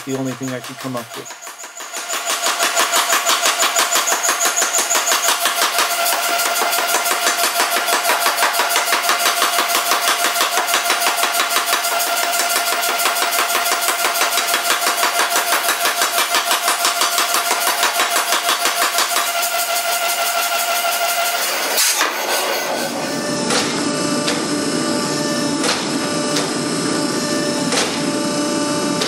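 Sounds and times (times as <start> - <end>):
forging hammer pounding metal: 0.0 - 24.6.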